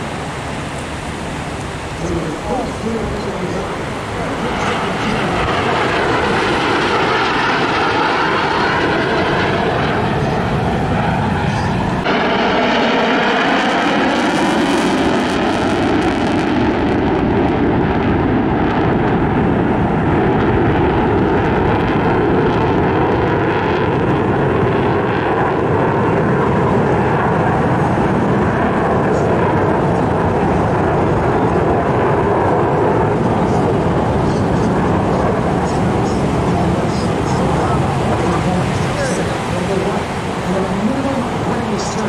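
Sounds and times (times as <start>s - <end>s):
airplane flying by: 0.0s - 42.0s.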